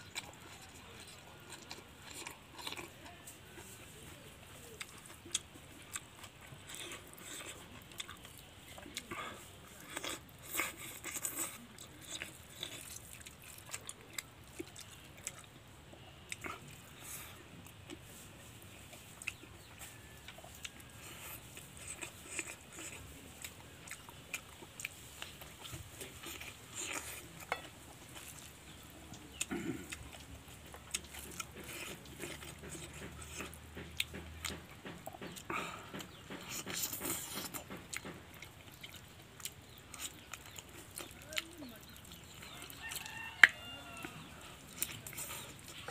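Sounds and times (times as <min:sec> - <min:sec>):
person chewing food: 0:00.0 - 0:45.9.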